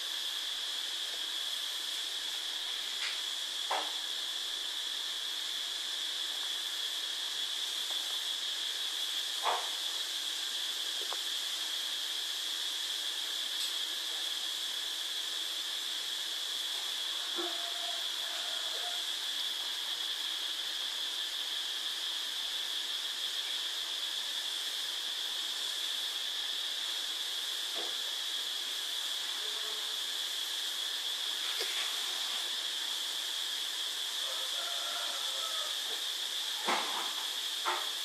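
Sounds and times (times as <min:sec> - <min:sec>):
steady hiss: 0:00.0 - 0:38.0.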